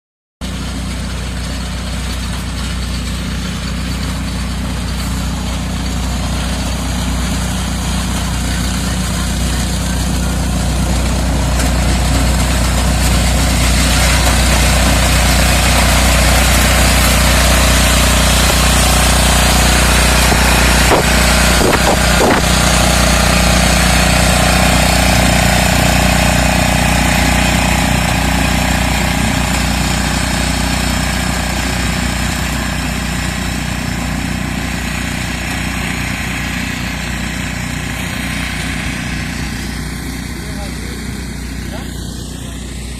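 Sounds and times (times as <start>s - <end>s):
reaper engine running: 0.4s - 42.9s.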